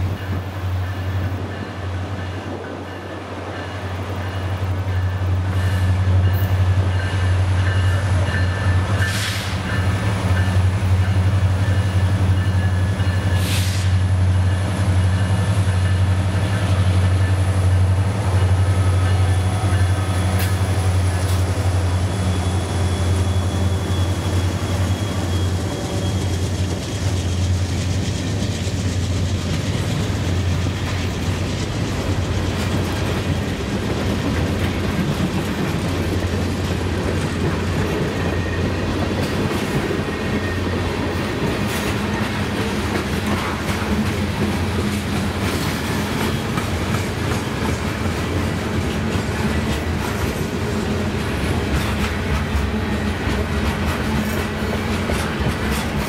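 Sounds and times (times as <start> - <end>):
diesel locomotive engine drone: 0.0 - 56.0
freight cars rolling on rails: 0.0 - 56.0.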